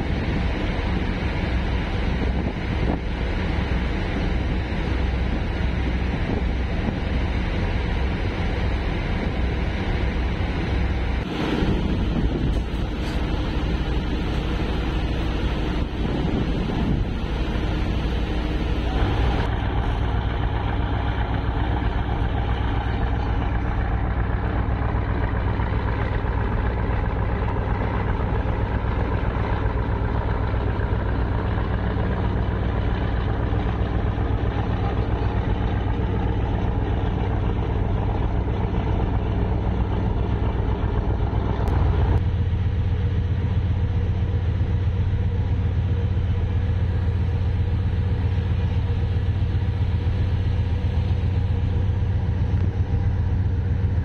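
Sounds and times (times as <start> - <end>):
ferry diesel engines humming: 0.0 - 54.0.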